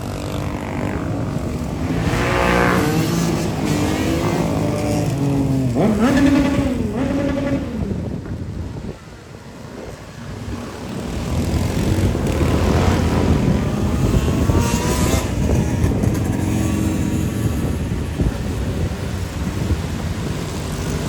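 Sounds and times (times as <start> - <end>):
motorcycle engine revving: 0.0 - 8.7, 10.4 - 21.0
motorcycles riding past: 0.0 - 21.0.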